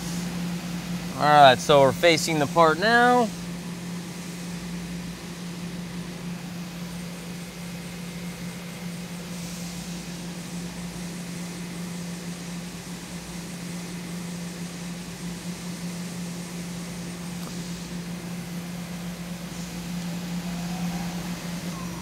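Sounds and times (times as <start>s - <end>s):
lathe machine hum: 0.0s - 22.0s.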